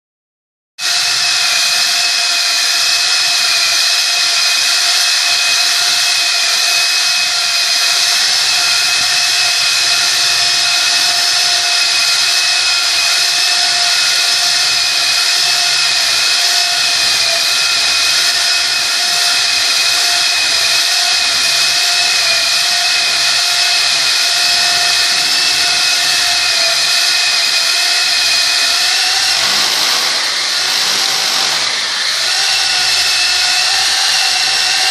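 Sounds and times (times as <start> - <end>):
rotary hammer drilling into wall: 0.8 - 34.9.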